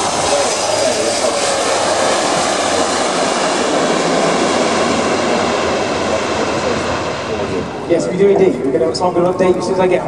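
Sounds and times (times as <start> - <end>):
turboprop aircraft engines: 0.0 - 10.0.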